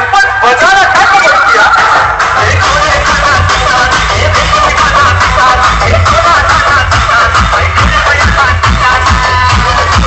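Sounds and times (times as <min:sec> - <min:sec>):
loud music with heavy bass beat: 0:00.0 - 0:10.0.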